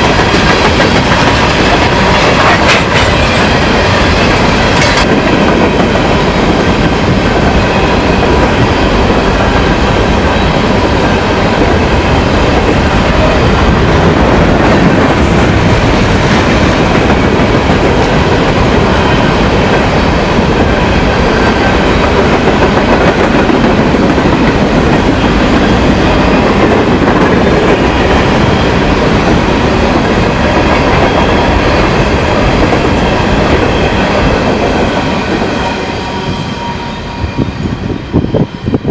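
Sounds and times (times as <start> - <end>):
train wheels clattering on rails: 0.0 - 36.9.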